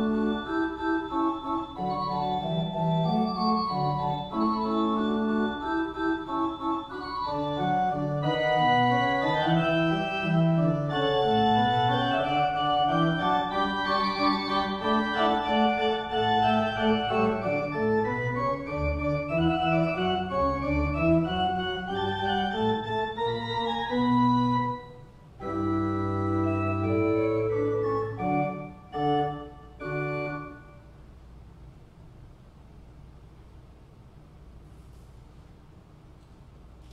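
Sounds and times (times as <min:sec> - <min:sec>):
church pipe organ playing: 0:00.0 - 0:30.9.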